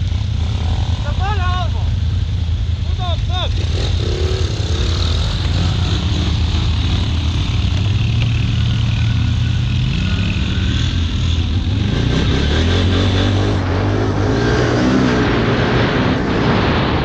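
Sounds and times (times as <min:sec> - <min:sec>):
atv engine revving: 0:00.0 - 0:16.8.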